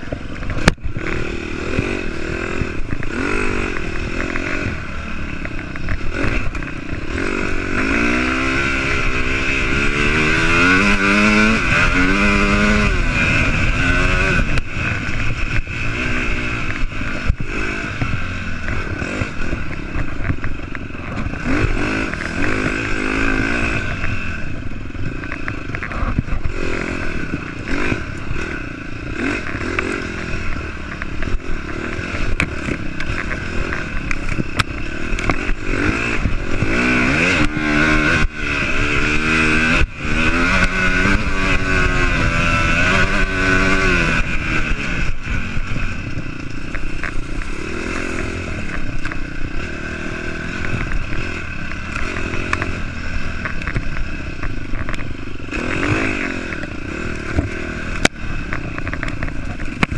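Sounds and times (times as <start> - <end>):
bike knocking and rattling: 0.0 - 59.9
dirt bike engine revving: 0.0 - 59.9.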